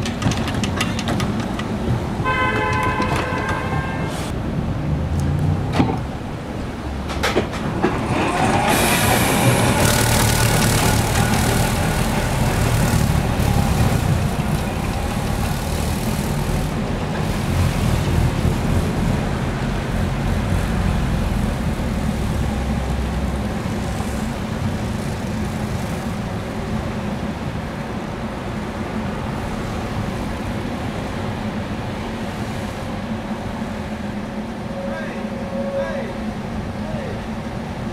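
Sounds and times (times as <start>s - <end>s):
snowplow tram rumbling: 0.0s - 37.9s.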